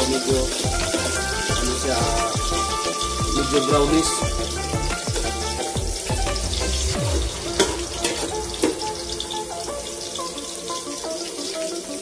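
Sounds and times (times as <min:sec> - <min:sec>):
garlic sizzling in oil: 0:00.0 - 0:12.0.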